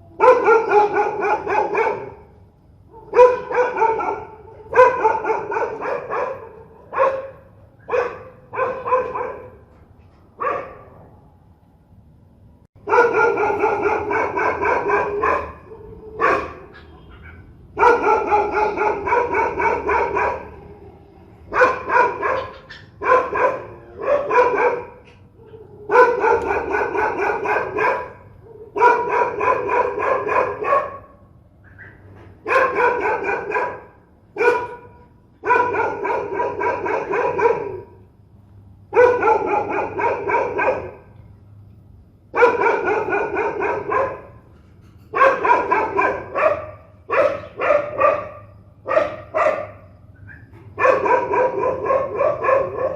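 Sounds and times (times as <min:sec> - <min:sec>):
dogs barking fiercely: 0:00.0 - 0:11.2, 0:12.8 - 0:41.2, 0:42.2 - 0:52.9.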